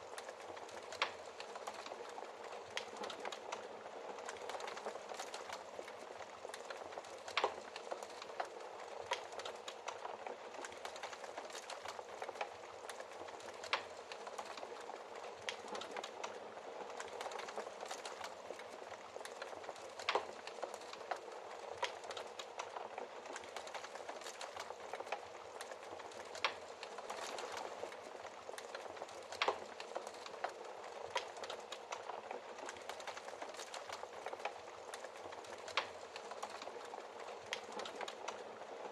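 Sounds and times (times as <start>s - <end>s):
wood fire crackling and hissing: 0.0s - 38.9s.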